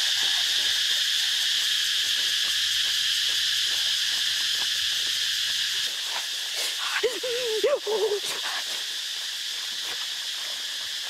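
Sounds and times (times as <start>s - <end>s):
forest insects chorus: 0.0s - 11.0s.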